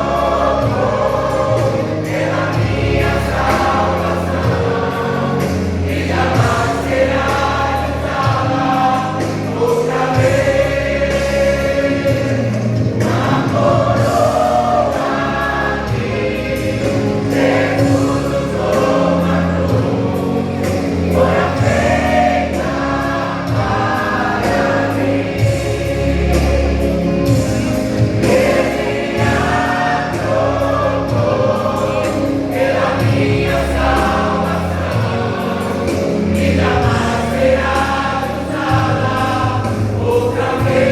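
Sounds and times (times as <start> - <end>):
vocal group singing gospel: 0.0 - 40.9.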